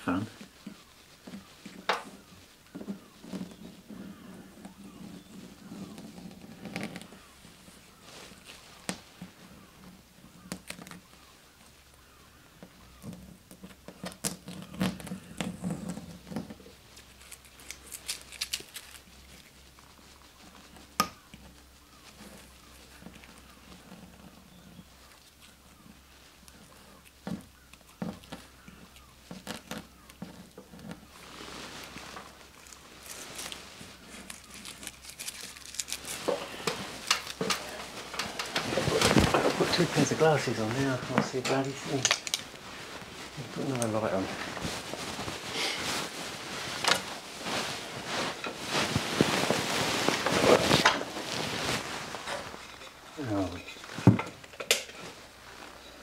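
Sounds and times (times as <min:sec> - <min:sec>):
faint hand scratching: 0:00.0 - 0:13.0, 0:13.7 - 0:54.0
rustling hiss: 0:00.0 - 0:56.0.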